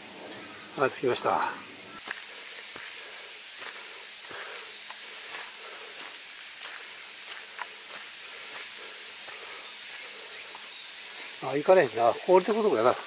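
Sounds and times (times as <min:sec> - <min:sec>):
cicadas chorus: 0:00.0 - 0:13.0.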